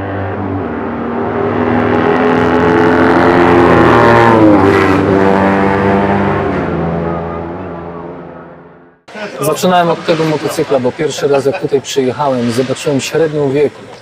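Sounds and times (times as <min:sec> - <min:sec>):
racing engine passing by: 0:00.0 - 0:11.5.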